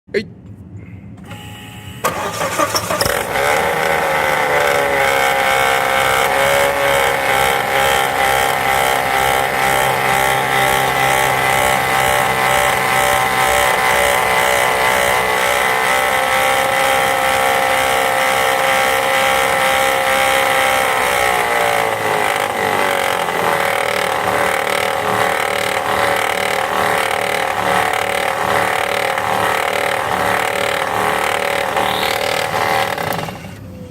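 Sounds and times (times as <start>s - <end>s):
alternator pulley noise: 1.3s - 33.9s
car engine running: 2.0s - 33.9s.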